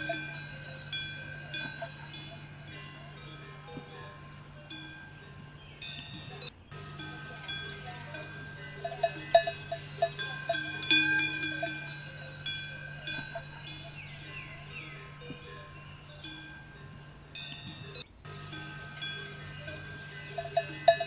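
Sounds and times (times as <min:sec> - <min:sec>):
metal bells clanking: 0:00.0 - 0:21.0
steady low hum: 0:00.0 - 0:21.0.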